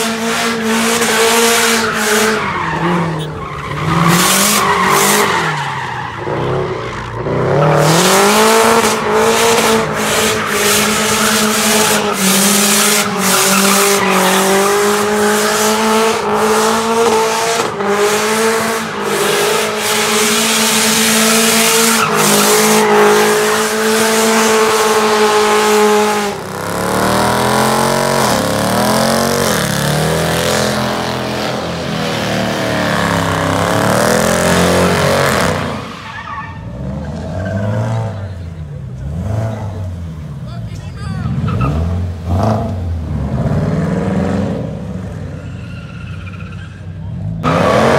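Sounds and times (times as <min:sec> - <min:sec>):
car engine revving: 0:00.0 - 0:40.5, 0:41.2 - 0:46.2, 0:46.9 - 0:47.9.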